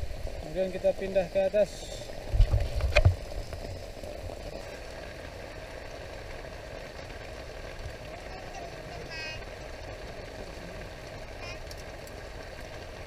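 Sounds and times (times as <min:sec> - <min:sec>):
heavy rain on tent fabric: 0:00.0 - 0:13.0.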